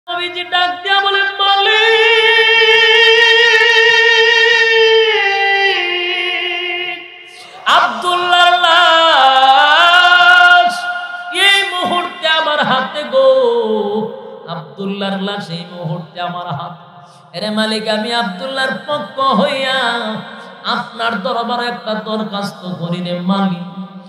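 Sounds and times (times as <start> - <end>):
man chanting unaccompanied: 0.1 - 16.8, 17.4 - 23.8.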